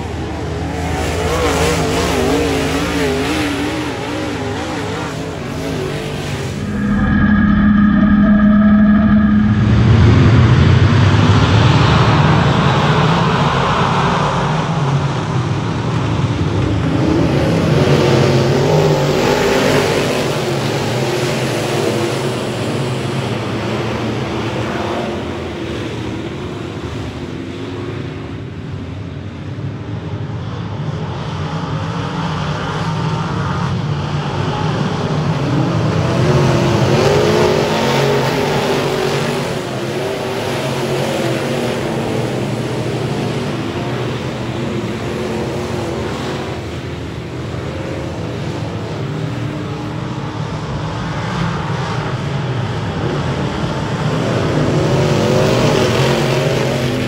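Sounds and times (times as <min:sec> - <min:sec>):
stock car engines racing: 0:00.0 - 0:57.0.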